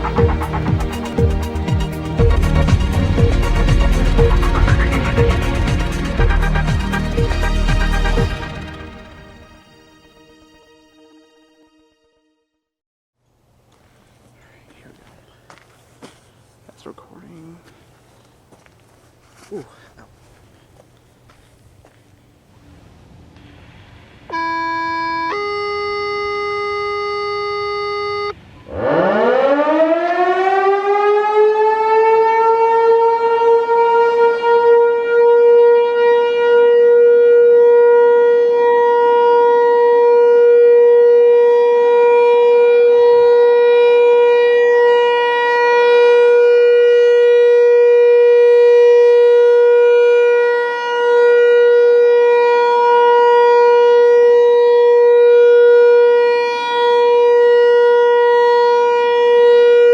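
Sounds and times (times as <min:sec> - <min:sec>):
outdoor warning siren wailing: 0:00.0 - 0:12.5, 0:24.3 - 0:59.9.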